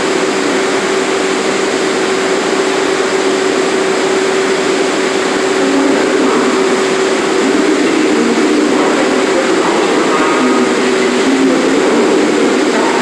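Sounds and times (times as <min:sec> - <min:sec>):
idling train hum: 0:00.0 - 0:13.0
steady humming note: 0:00.0 - 0:13.0.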